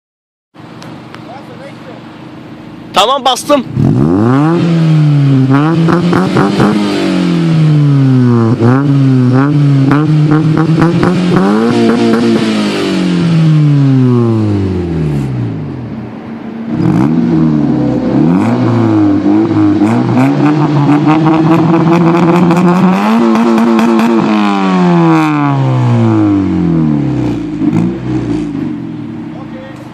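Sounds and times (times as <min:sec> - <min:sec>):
car engine revving: 0:02.8 - 0:29.9.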